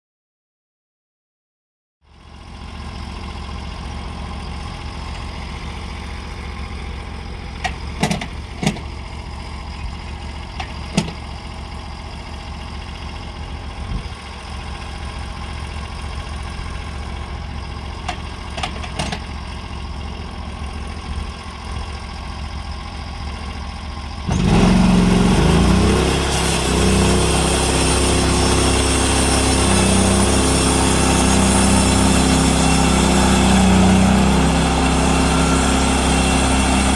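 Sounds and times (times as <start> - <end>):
sawmill engine idling and revving: 2.0 - 36.9.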